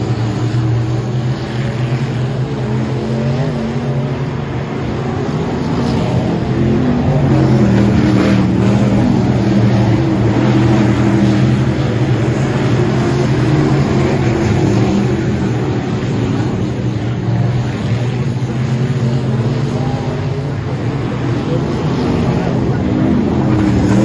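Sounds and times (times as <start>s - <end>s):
race car engines running hard: 0.0s - 24.0s.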